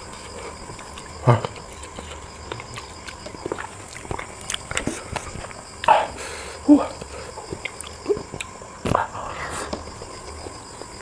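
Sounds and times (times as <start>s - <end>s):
chewing and sucking: 0.0s - 11.0s.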